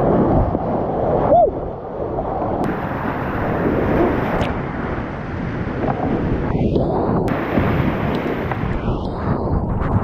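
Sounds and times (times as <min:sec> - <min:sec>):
steady rushing noise: 0:00.0 - 0:10.0
wind buffeting microphone: 0:00.0 - 0:10.0.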